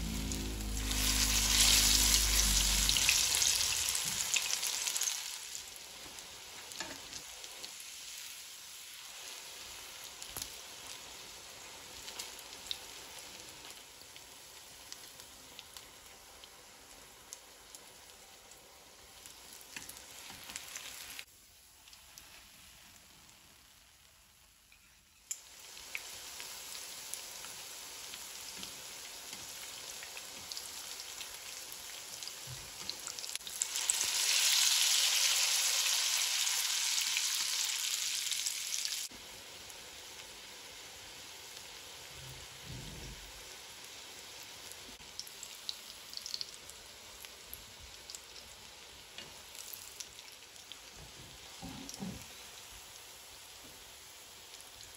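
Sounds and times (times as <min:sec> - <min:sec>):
oil sizzling in frying pan: 0:00.0 - 0:54.9.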